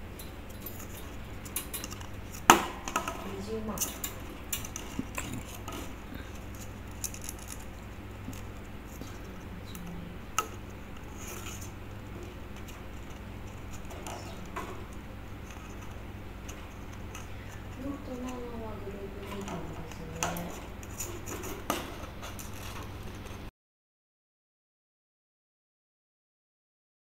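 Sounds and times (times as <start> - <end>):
low steady hum: 0.0 - 23.5
parrot pecking at paper tube: 0.2 - 23.5.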